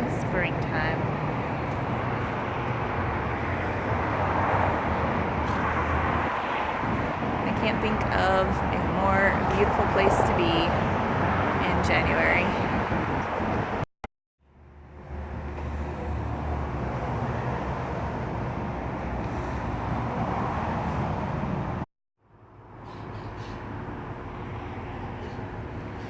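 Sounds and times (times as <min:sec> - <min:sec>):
distant traffic rumble and hiss: 0:00.0 - 0:13.8, 0:14.5 - 0:26.0.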